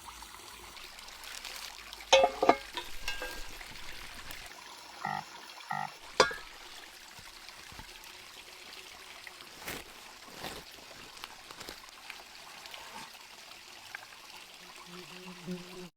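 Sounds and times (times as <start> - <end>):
trickle of running water: 0.0 - 15.9.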